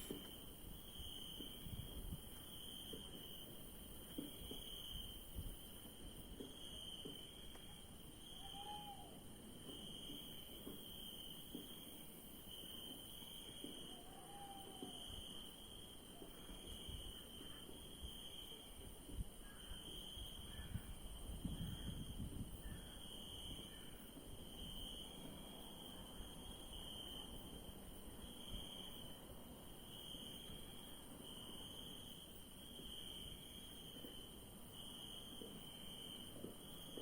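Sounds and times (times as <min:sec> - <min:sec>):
crickets trilling: 0:00.0 - 0:37.0.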